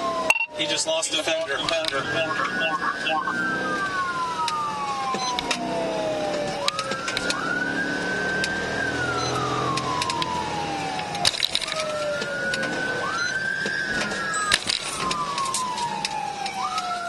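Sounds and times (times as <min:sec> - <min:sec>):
engine and road noise: 0:00.0 - 0:17.0
police sirens wailing: 0:00.0 - 0:17.0.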